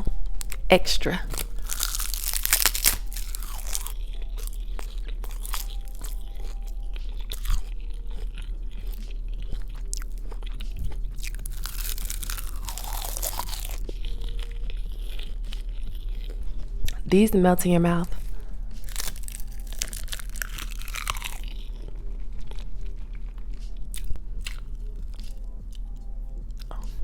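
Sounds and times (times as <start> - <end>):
crunchy food being chewed: 0.0 - 17.0, 18.1 - 27.0.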